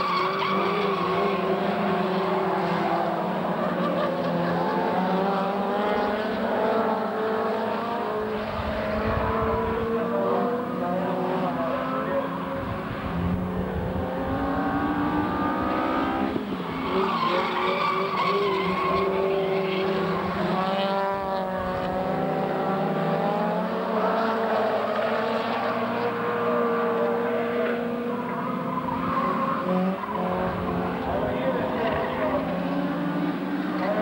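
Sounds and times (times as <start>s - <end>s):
racing car engines revving: 0.0s - 34.0s.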